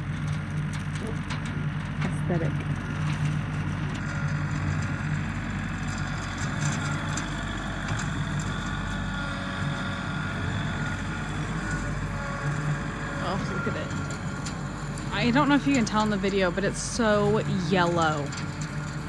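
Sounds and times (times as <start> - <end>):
tractor engine drone: 0.0 - 19.0.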